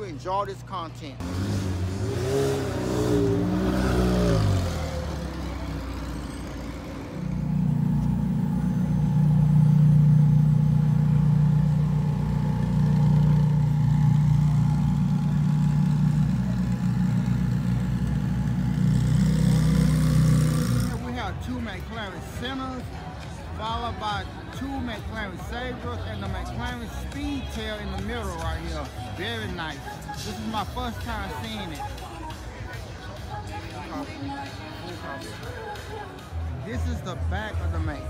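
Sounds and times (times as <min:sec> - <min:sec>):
car engines passing: 0:00.0 - 0:38.0.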